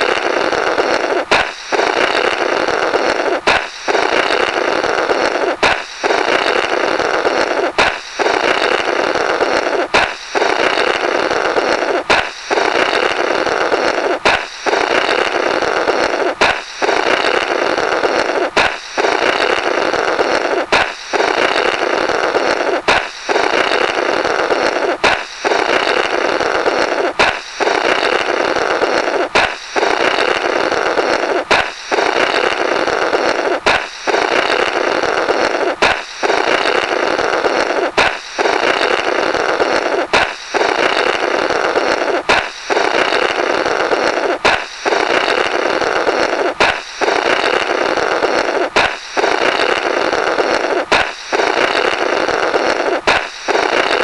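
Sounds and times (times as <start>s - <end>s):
balloon popping: 0.0s - 54.0s
sputtering blowing through balloon: 0.0s - 54.0s.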